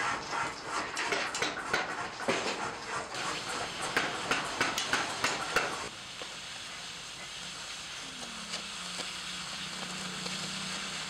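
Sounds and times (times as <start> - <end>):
cutting torch hissing: 1.6 - 11.0.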